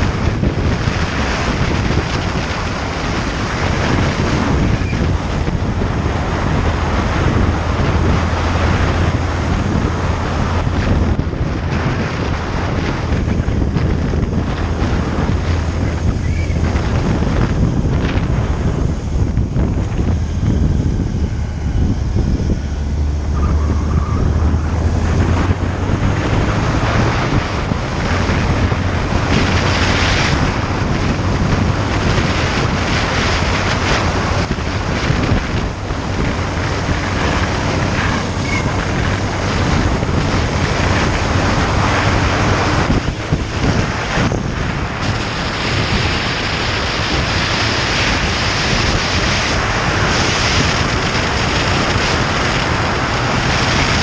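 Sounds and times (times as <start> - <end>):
motorcycle engine drone: 0.0 - 54.0
wind rushing over microphone: 0.0 - 54.0.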